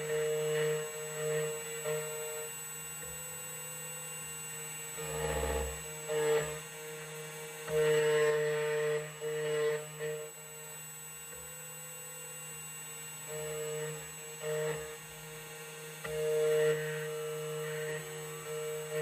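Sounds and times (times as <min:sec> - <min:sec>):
key cutting machine whine: 0:00.0 - 0:19.0.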